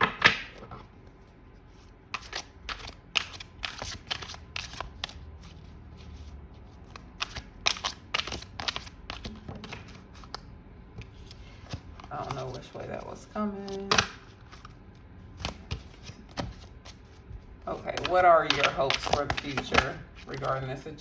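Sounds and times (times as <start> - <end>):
cards being shuffled: 1.7 - 10.4, 11.0 - 20.8.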